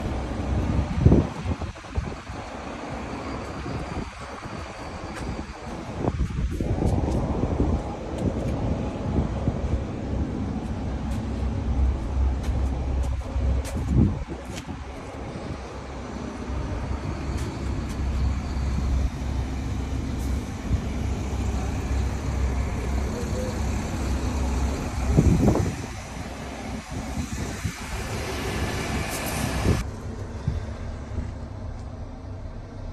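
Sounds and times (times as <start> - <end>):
diesel truck engine rumbling: 0.0 - 32.9.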